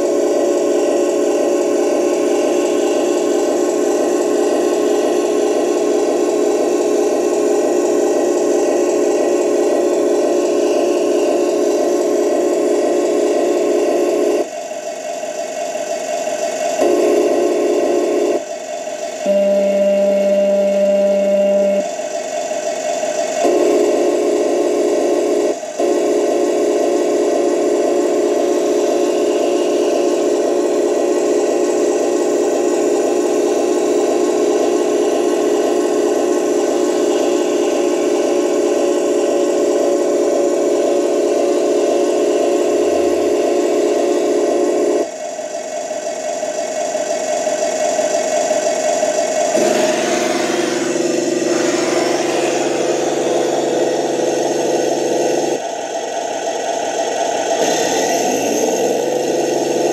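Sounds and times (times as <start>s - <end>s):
simulated tank engine drone: 0.0s - 59.9s.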